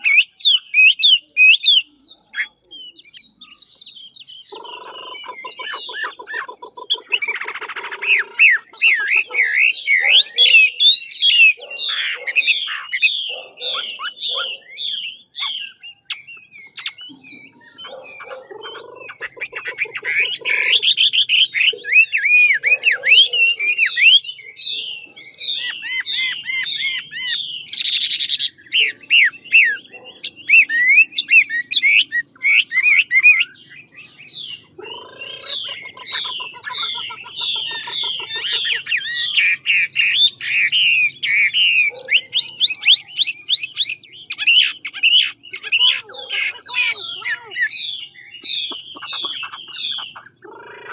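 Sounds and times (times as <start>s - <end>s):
bird singing whistled trills: 0.0s - 50.9s.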